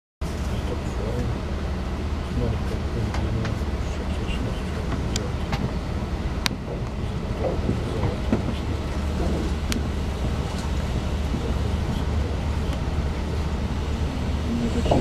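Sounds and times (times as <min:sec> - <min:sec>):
train coach rumble: 0:00.2 - 0:15.0.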